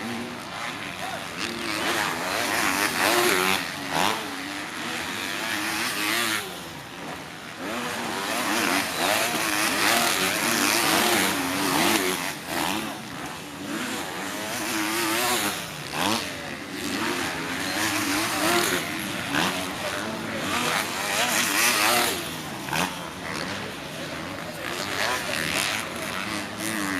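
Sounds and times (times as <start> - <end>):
motocross bikes revving: 0.0 - 26.9.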